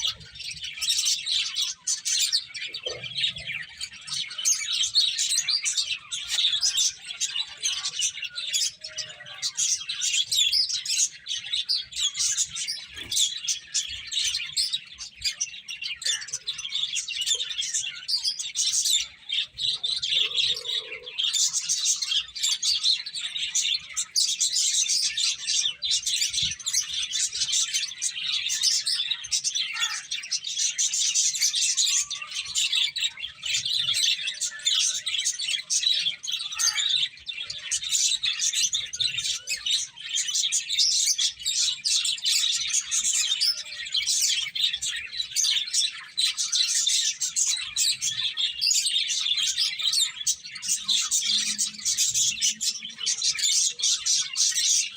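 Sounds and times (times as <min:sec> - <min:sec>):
finches chirping: 0:00.0 - 0:54.9.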